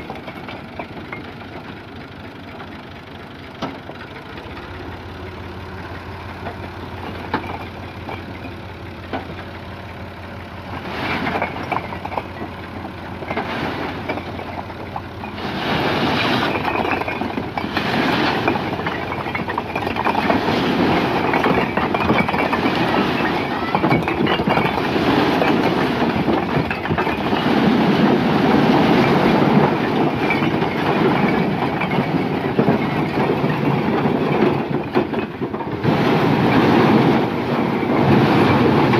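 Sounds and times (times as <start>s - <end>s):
tractor engine running: 0.0s - 38.9s
bricks clattering onto a pile: 6.4s - 9.4s, 10.6s - 38.9s.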